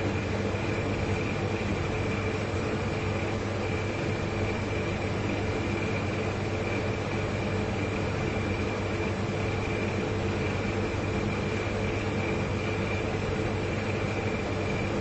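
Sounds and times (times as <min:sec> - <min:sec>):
refrigerator compressors humming: 0:00.0 - 0:15.0.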